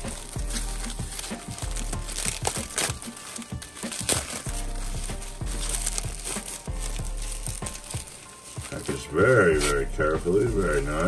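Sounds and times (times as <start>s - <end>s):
bubble wrap crackling: 0.0s - 11.0s.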